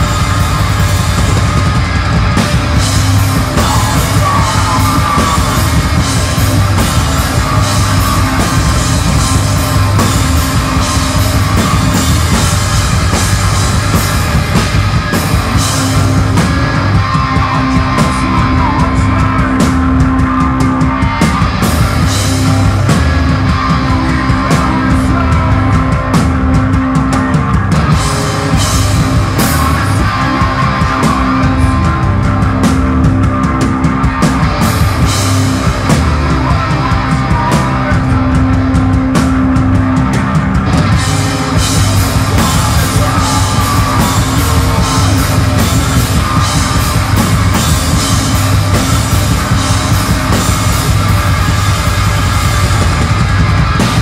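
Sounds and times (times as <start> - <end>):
distorted guitar and bass: 0.0 - 54.0
drums: 0.0 - 54.0.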